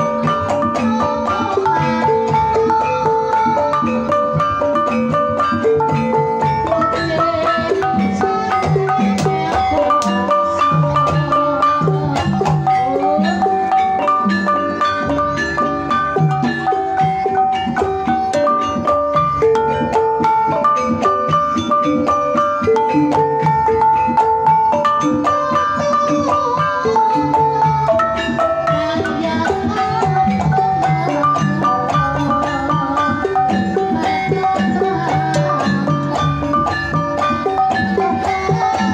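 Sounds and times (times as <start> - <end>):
drums: 0.0 - 38.9
gamelan ensemble playing: 0.0 - 38.9.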